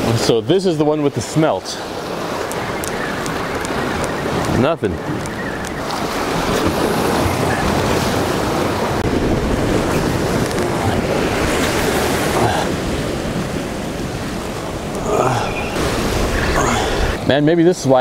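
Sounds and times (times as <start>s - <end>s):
surf breaking against rocks: 1.6s - 17.3s
wind buffeting microphone: 1.8s - 17.3s.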